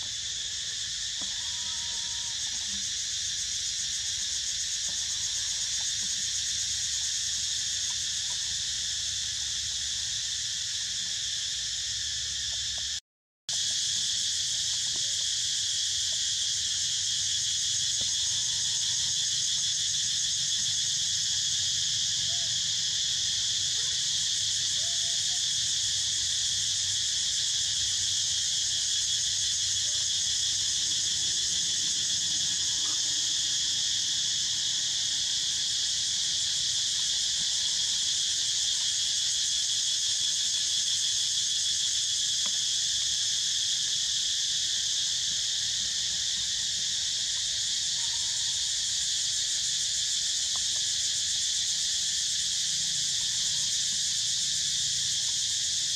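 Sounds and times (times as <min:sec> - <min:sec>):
insect chorus buzzing: 0:00.0 - 0:55.9.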